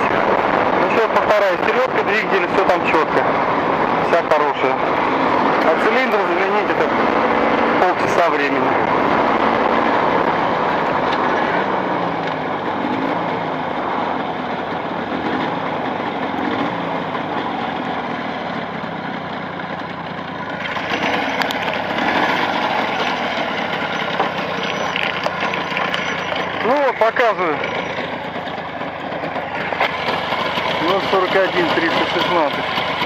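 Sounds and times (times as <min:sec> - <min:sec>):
two-stroke motorcycle engine running: 0:00.0 - 0:33.0.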